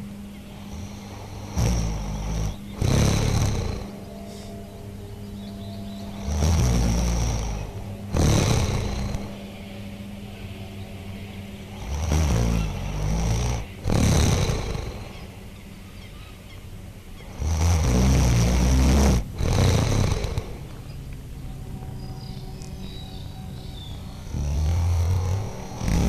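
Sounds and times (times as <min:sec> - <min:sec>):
harsh rumbling noise surges: 0:00.0 - 0:26.0
low drone tones: 0:00.0 - 0:26.0.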